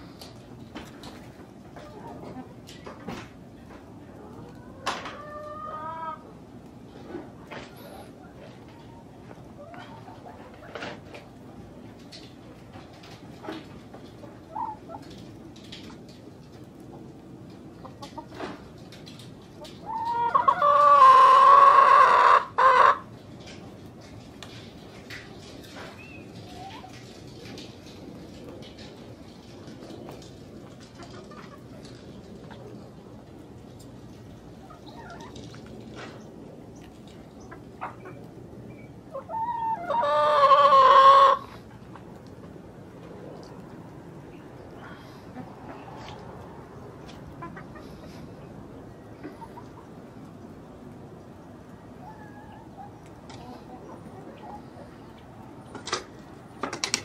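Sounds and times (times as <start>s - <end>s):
chickens clucking and chirping: 0.0s - 57.0s.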